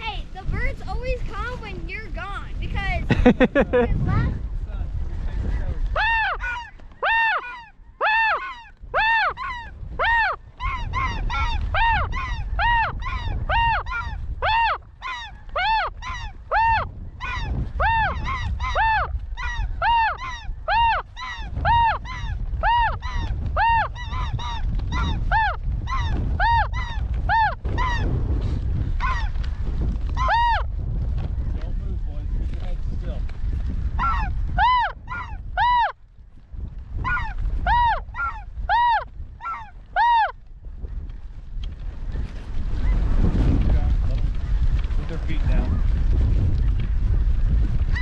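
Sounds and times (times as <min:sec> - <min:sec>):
wind rumbling: 0:00.0 - 0:48.0.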